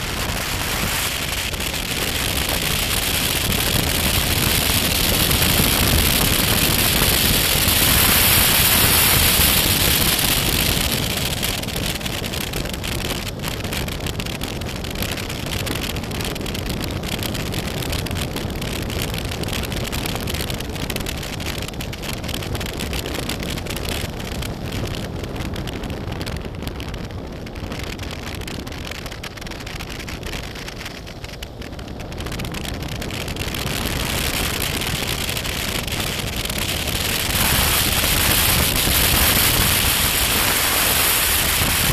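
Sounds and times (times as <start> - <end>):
crackling tyre noise: 0.0 - 41.9
motorcycle engine running: 0.0 - 41.9
wind rush on microphone: 0.0 - 41.9.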